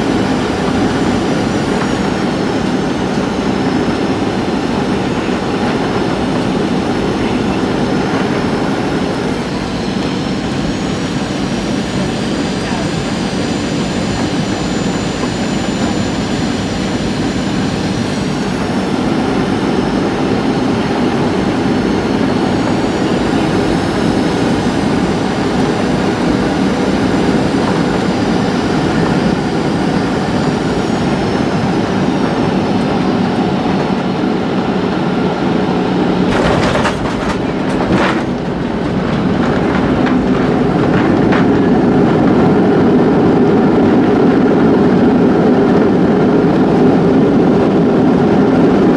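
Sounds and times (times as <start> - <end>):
jet engine and airflow roar: 0.0 - 48.9
jet engine whine: 0.0 - 48.9.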